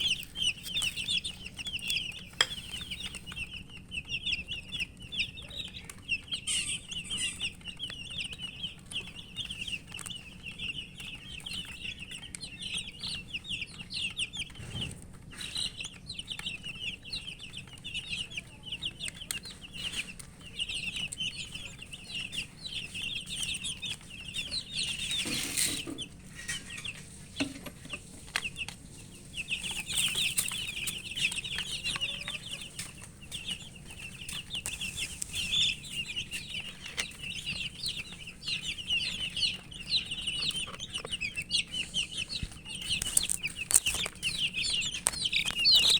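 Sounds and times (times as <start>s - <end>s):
chicks peeping: 0.0s - 45.9s.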